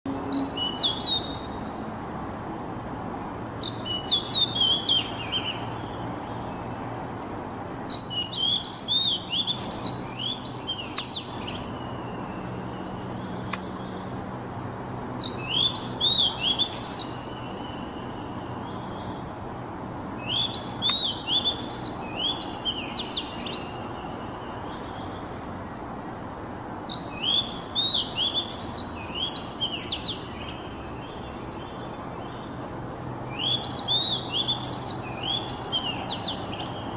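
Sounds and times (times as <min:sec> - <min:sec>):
bird singing whistled notes: 0:00.1 - 0:01.9, 0:03.6 - 0:06.6, 0:07.9 - 0:14.1, 0:15.2 - 0:19.2, 0:20.2 - 0:25.2, 0:26.9 - 0:36.9.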